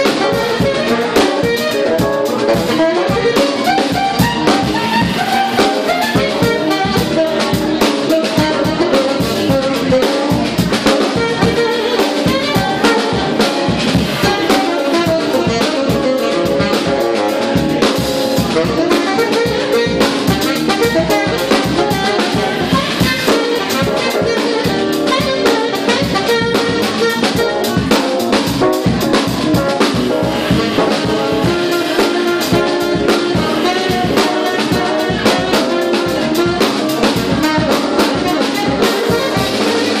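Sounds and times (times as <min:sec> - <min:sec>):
drum kit beat: 0:00.0 - 0:40.0
tenor saxophone melody: 0:00.0 - 0:40.0.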